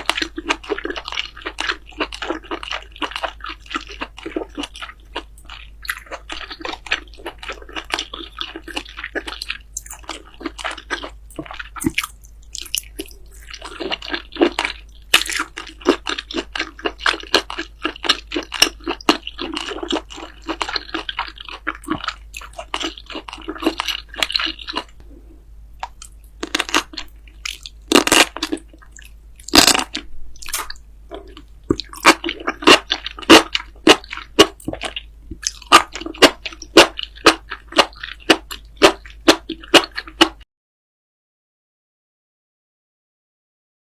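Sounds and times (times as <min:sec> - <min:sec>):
crunchy chewing and biting: 0:00.0 - 0:25.2, 0:25.8 - 0:40.4.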